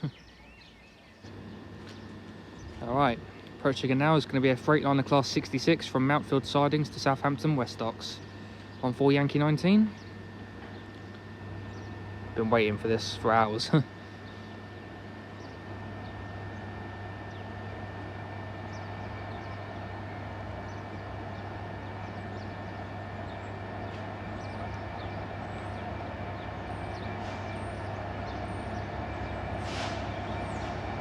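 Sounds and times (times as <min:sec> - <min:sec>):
diesel locomotive engine drone: 0:00.0 - 0:31.0.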